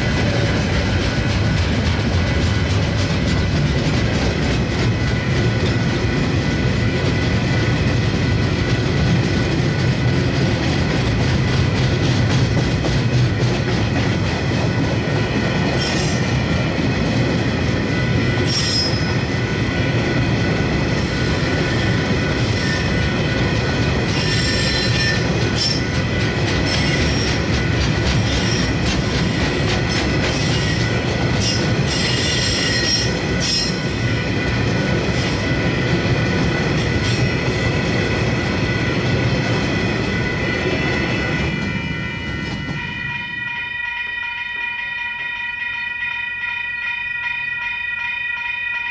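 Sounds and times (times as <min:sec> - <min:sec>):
freight train rumbling past: 0:00.0 - 0:44.7
wheels squealing on rails: 0:00.0 - 0:48.5.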